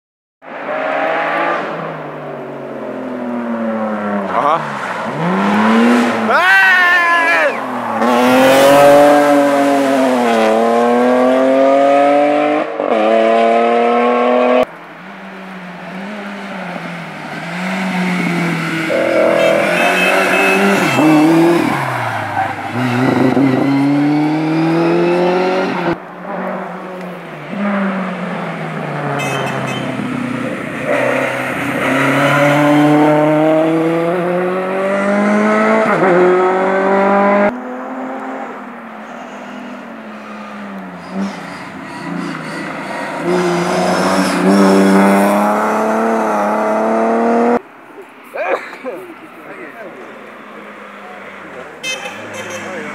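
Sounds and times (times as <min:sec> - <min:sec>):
rally cars revving past: 0:00.5 - 0:06.4, 0:07.1 - 0:14.7, 0:15.6 - 0:47.6.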